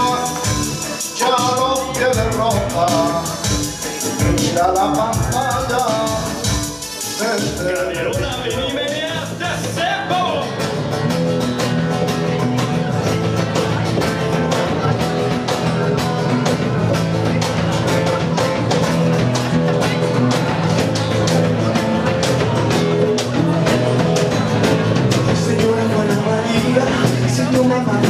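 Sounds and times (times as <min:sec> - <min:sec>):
live band music: 0:00.0 - 0:28.0
steady drum beat: 0:00.0 - 0:28.0.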